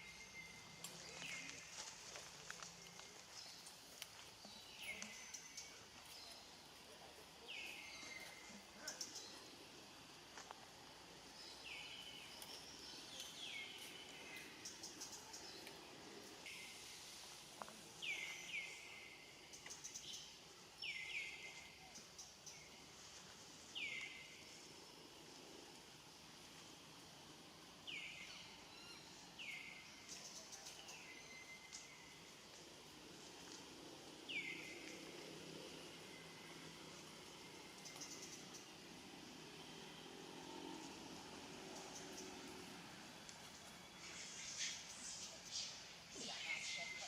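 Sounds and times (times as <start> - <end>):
faint outdoor background: 0.0 - 47.0
low background hiss: 0.0 - 47.0.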